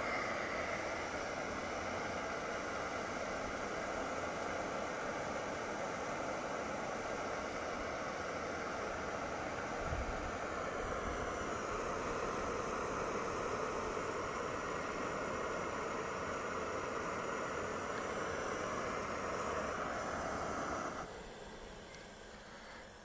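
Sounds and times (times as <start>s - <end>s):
gas burner hissing: 0.0s - 23.0s.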